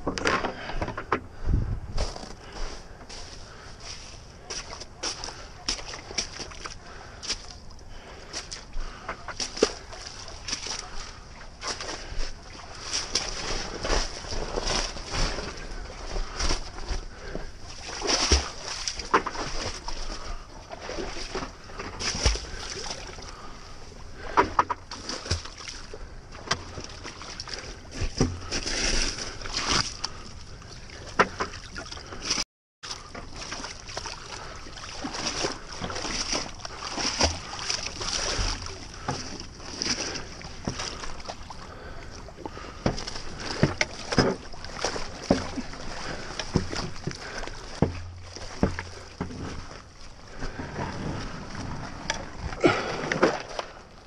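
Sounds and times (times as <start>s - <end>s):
water sloshing against board: 0.0s - 54.0s.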